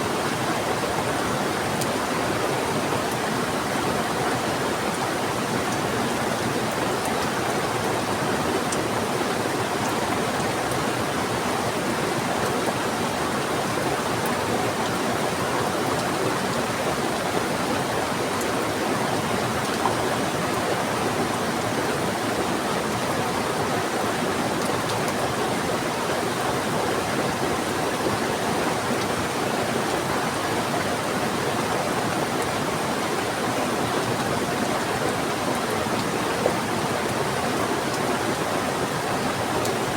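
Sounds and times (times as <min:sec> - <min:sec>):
fast-flowing river: 0:00.0 - 0:39.9.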